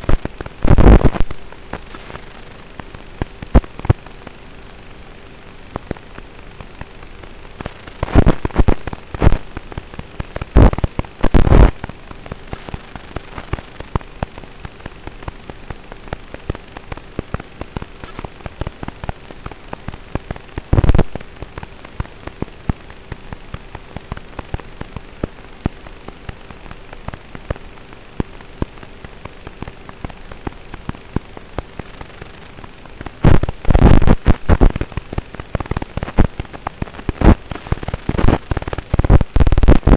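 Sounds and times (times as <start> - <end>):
faint hum: 0.0 - 39.9
static crackle bursts: 0.0 - 39.9
steady radio hiss: 0.0 - 39.9.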